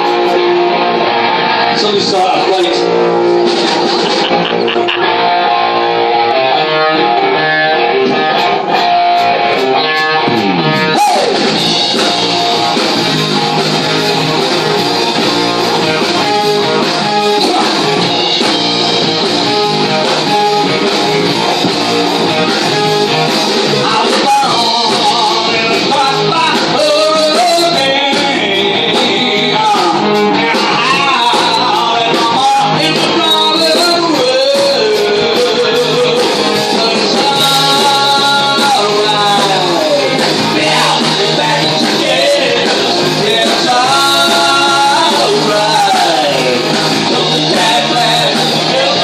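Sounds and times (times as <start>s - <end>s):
electric guitar riff: 0.0s - 49.0s
guitar slide: 0.0s - 49.0s
rock band playing: 0.0s - 49.0s.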